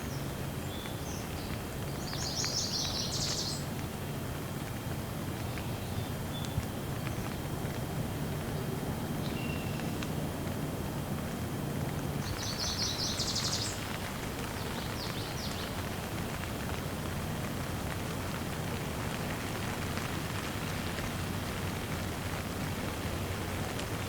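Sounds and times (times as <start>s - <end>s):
rain shower hissing: 0.0s - 24.0s.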